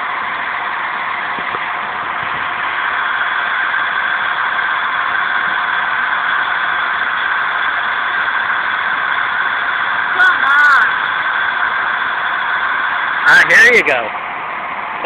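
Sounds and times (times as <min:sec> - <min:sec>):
steam hissing from locomotive: 0:00.0 - 0:14.1.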